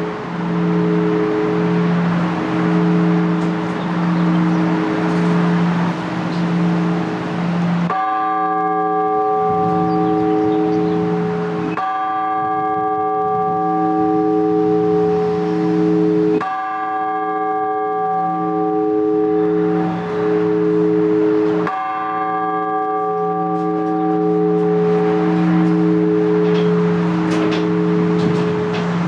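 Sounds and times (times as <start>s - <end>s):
large church bell tolling: 0.0s - 29.0s.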